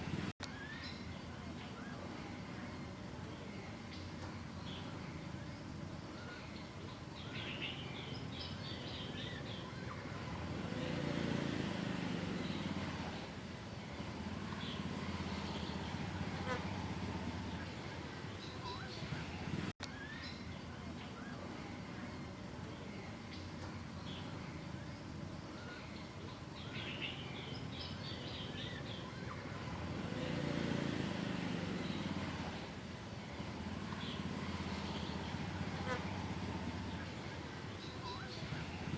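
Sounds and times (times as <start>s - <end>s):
bird chirping: 0.0s - 11.3s, 12.2s - 30.9s, 31.5s - 38.9s
outdoor background noise: 0.0s - 38.9s
steady background noise: 0.0s - 38.9s.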